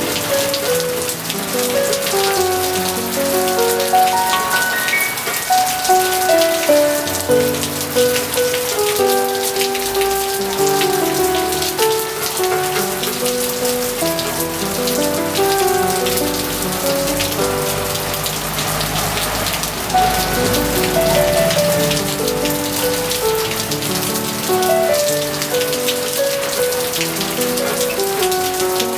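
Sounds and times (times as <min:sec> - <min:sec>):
piano music: 0:00.0 - 0:28.9
steady rain hiss: 0:00.0 - 0:28.9.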